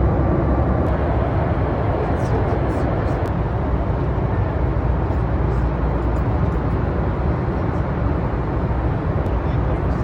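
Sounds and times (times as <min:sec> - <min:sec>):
jet engine rumble in cabin: 0:00.0 - 0:10.0.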